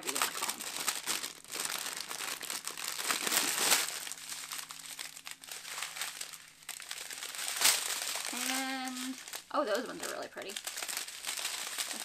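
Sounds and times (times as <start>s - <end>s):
thin plastic packaging crinkling: 0.0s - 12.0s.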